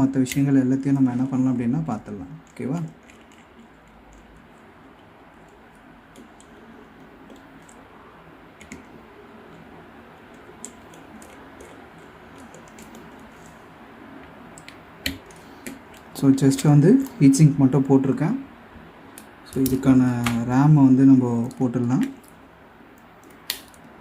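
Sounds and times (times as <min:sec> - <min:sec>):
faint background hum: 0:00.0 - 0:24.0.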